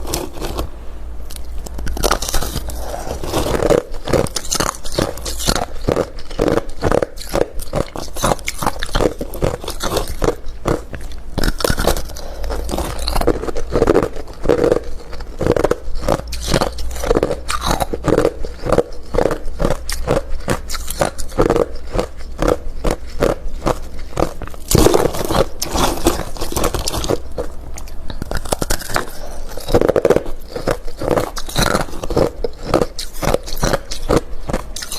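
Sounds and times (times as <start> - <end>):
ice being chewed: 0.0 - 34.9.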